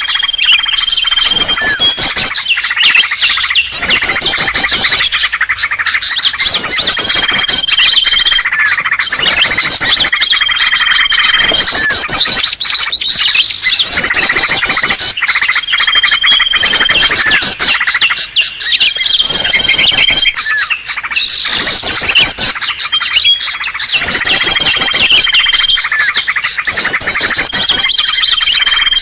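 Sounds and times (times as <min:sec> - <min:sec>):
bird chattering chirps and trills: 0:00.0 - 0:29.0
long level bird whistle: 0:00.0 - 0:29.0.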